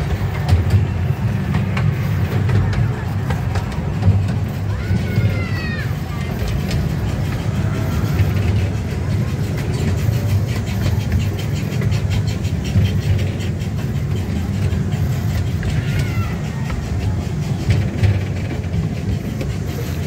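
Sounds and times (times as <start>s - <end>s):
small train rumbling on track: 0.0s - 20.0s
wheels clicking over rails: 0.0s - 20.0s.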